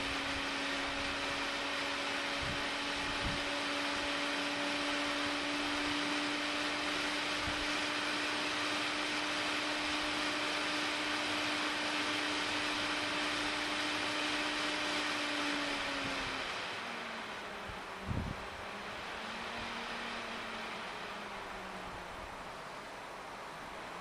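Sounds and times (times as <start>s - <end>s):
small electric motor humming: 0.0s - 24.0s.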